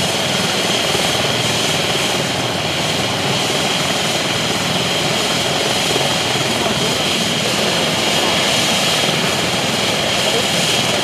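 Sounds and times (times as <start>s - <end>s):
helicopter rotor beat: 0.0s - 11.0s
helicopter turbine whine: 0.0s - 11.0s.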